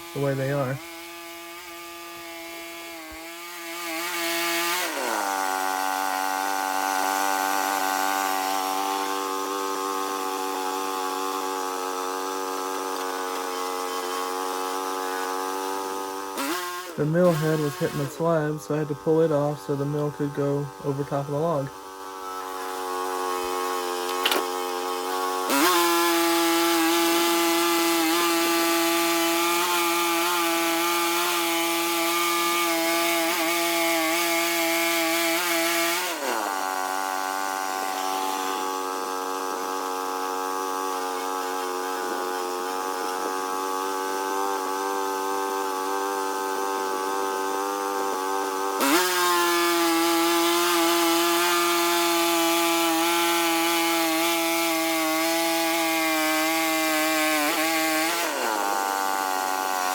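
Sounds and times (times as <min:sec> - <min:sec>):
saw cutting log with hiss: 0:00.0 - 0:59.9
sawmill engine running: 0:00.0 - 0:59.9.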